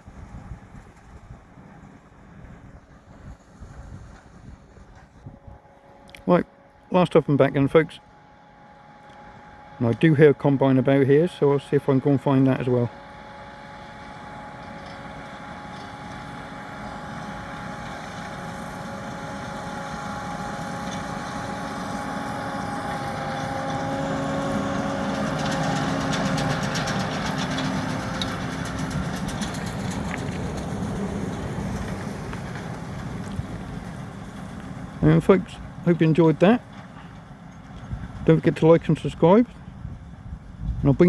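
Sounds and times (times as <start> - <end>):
tractor running: 0.0 - 41.0.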